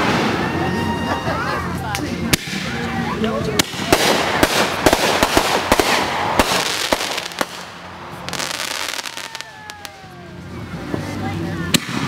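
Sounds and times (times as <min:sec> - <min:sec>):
firework crackling: 0:00.0 - 0:12.0
firework reports: 0:00.0 - 0:12.0.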